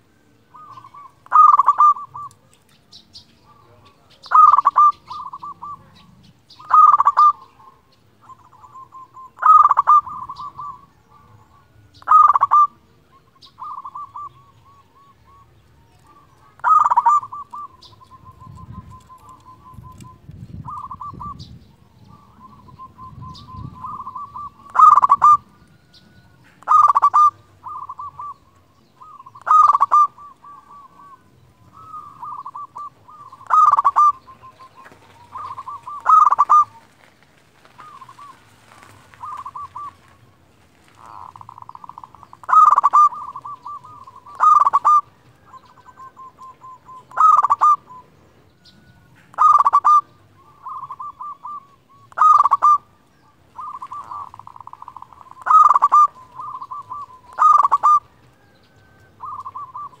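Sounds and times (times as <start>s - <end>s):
dove cooing: 0.0s - 60.0s.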